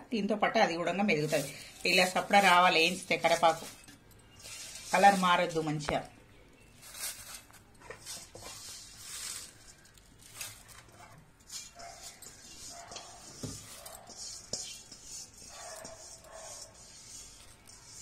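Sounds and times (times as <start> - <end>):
fried leaves rustling and crackling: 0.8 - 18.0.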